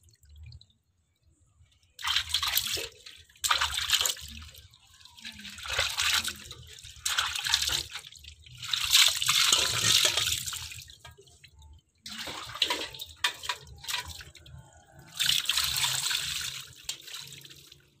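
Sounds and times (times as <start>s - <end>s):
water splashing and pouring: 2.0s - 18.0s.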